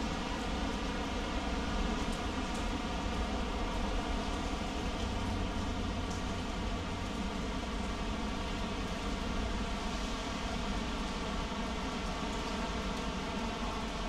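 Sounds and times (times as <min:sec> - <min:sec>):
heavy rain splashing on paving: 0:00.0 - 0:14.0.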